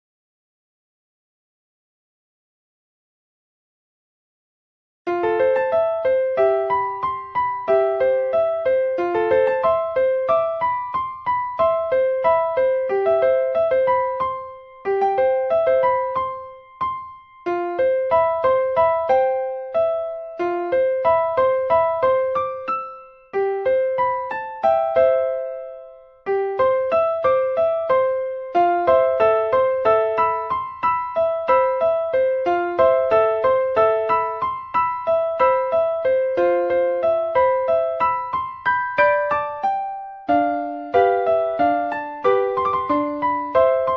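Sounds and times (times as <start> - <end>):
solo piano melody: 5.1 - 43.9.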